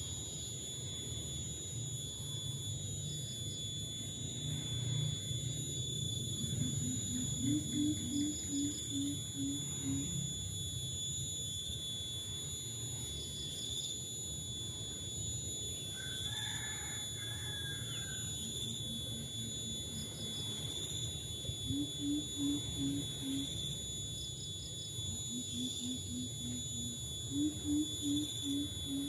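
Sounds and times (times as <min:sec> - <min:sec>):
steady high-pitched whine: 0:00.0 - 0:29.0.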